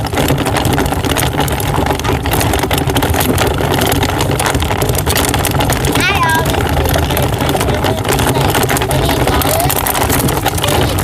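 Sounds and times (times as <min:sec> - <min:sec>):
rough crackle: 0:00.0 - 0:11.0.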